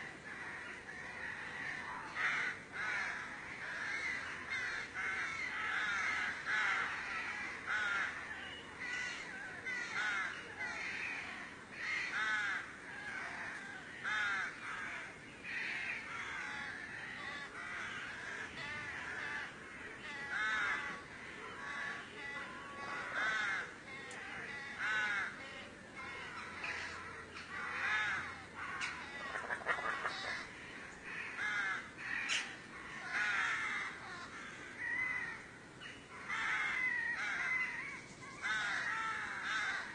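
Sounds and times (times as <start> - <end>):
harsh caw-like animal calls: 0.0 - 39.9.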